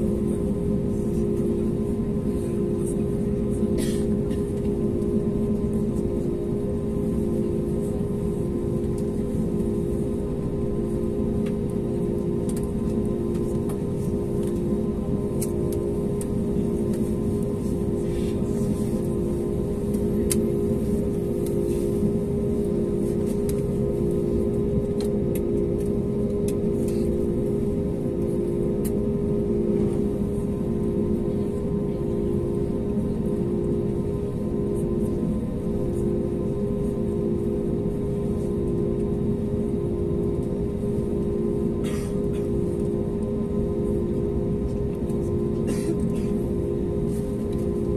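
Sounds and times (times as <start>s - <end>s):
aircraft cabin hum and rumble: 0.0s - 47.9s.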